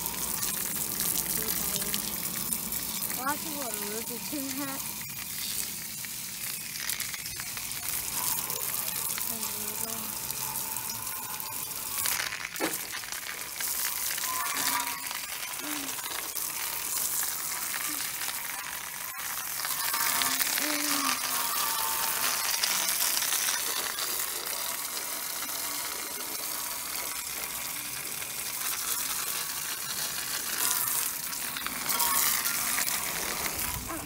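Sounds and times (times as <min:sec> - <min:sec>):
hose spray hissing on metal grille: 0:00.0 - 0:34.0.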